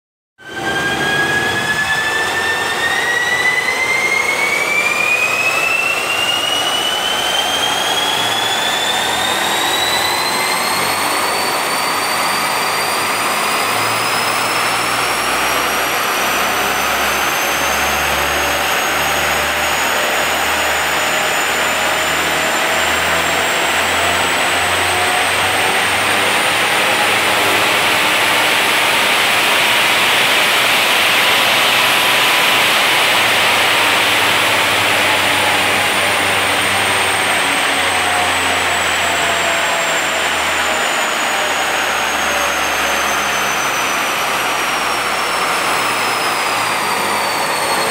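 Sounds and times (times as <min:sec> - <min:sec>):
car engine at full throttle: 0:00.4 - 0:47.9
rising whine of spinning rollers: 0:00.4 - 0:47.9.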